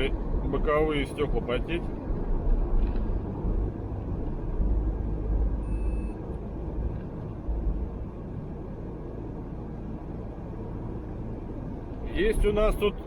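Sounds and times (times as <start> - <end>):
vehicle rumble inside cabin: 0.0 - 13.0.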